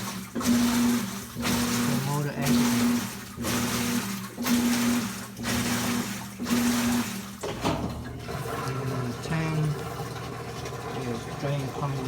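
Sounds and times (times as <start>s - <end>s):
washer motor humming: 0.0s - 12.0s.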